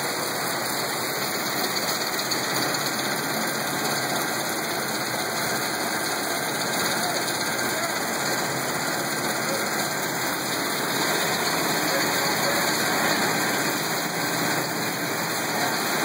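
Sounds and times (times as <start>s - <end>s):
machinery running: 0.0s - 16.0s
water gushing into steel tank: 0.0s - 16.0s.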